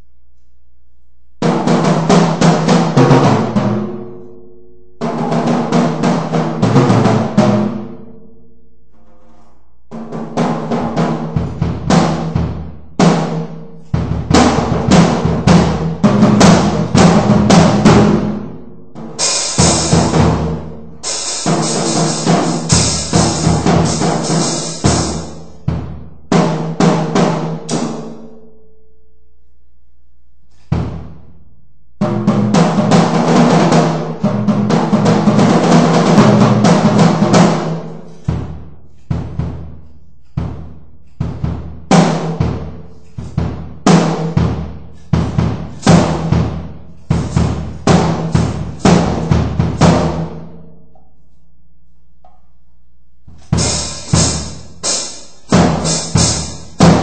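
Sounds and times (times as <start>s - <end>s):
drum kit hits and fills: 1.4s - 4.4s, 5.0s - 8.1s, 9.9s - 28.4s, 30.6s - 31.4s, 32.0s - 50.6s, 53.3s - 57.0s.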